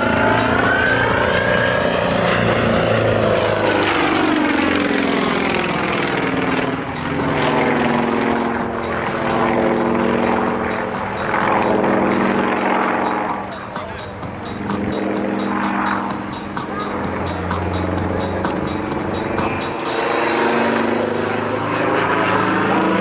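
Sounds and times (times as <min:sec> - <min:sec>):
propeller aircraft engine: 0:00.0 - 0:23.0.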